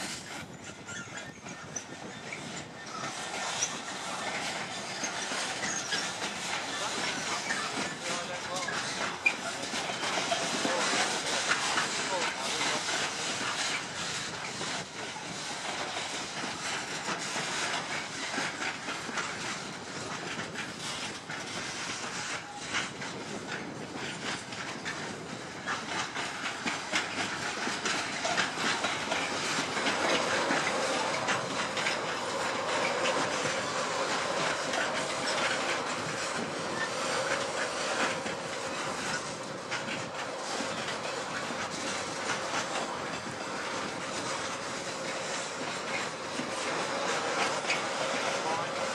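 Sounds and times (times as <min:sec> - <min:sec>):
freight train rumbling past: 0:00.0 - 0:48.9
wheels clicking over rail joints: 0:00.0 - 0:48.9.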